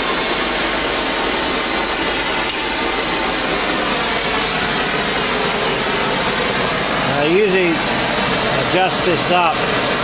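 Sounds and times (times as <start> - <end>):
welding torch flame hissing: 0.0 - 10.0.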